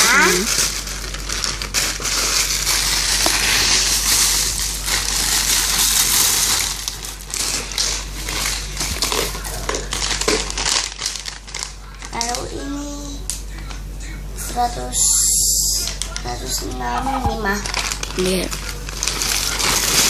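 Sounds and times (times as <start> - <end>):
plastic crinkling and crackling: 0.0 - 12.7, 15.8 - 20.0.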